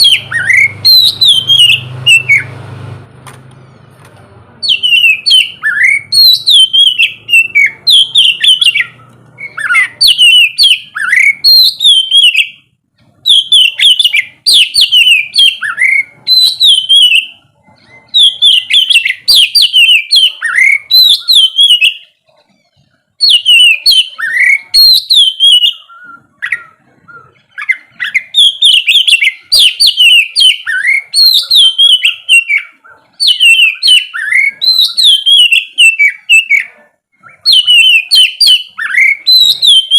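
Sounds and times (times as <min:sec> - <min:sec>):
bird singing whistled notes: 0:00.0 - 0:02.6, 0:04.6 - 0:22.2, 0:23.2 - 0:39.9.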